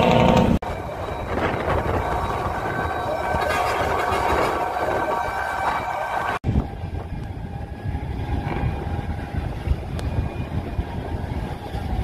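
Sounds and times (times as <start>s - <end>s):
steady whine: 0.0s - 12.0s
street noise: 0.0s - 12.0s
wind rumble on microphone: 0.0s - 12.0s.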